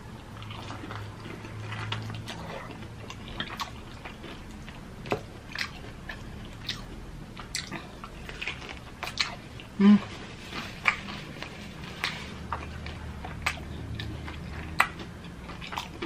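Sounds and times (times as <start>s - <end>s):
crunchy chewing of fried chicken: 0.0s - 16.0s.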